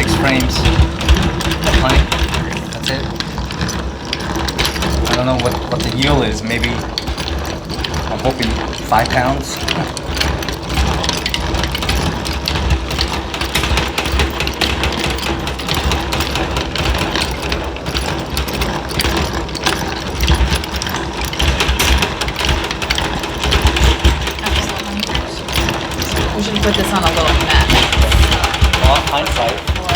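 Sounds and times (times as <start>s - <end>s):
honey extractor rattling and whirring: 0.0s - 29.9s.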